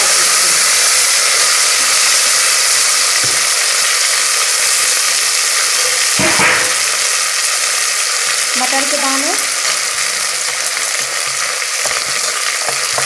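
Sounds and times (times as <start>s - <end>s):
vegetables sizzling in hot fat: 0.0s - 13.0s.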